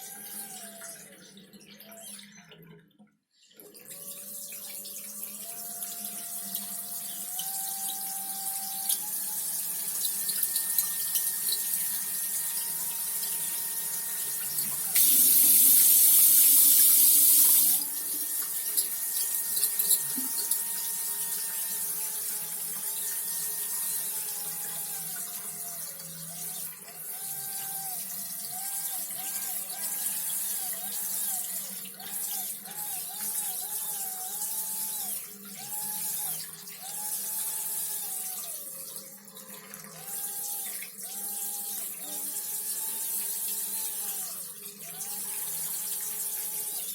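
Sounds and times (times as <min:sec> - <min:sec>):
whistling plumbing: 0:00.0 - 0:02.6, 0:03.8 - 0:46.9
tap water running: 0:03.7 - 0:46.9.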